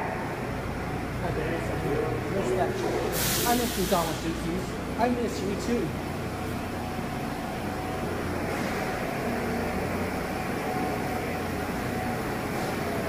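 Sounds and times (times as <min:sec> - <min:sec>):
subway train hum and hiss: 0:00.0 - 0:13.0.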